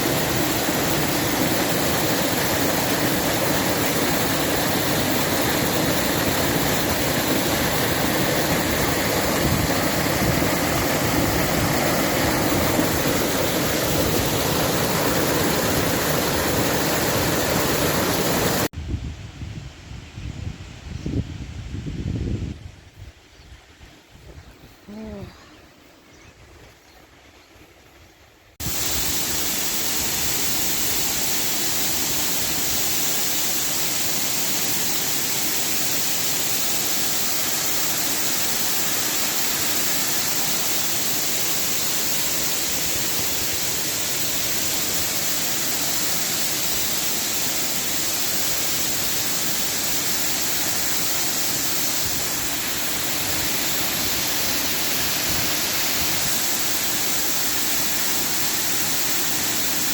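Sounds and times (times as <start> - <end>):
waterfall rushing: 0.0 - 18.7, 28.6 - 59.9.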